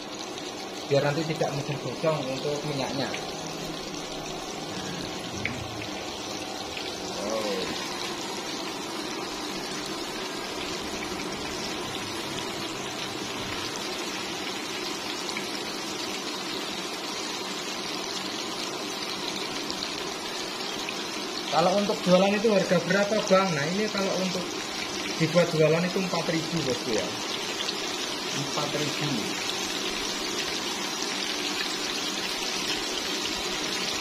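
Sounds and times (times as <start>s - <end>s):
chicken deep-frying in oil: 0.0s - 34.0s.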